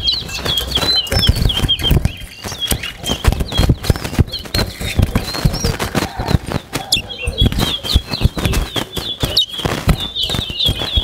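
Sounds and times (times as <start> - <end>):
finches singing: 0.0 - 11.0
sharp clicks in cages: 0.0 - 11.0
wing flutters: 0.0 - 11.0.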